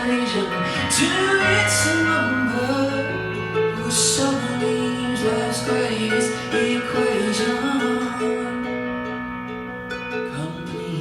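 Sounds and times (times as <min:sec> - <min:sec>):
instrumental accompaniment: 0:00.0 - 0:11.0
person singing: 0:00.0 - 0:11.0.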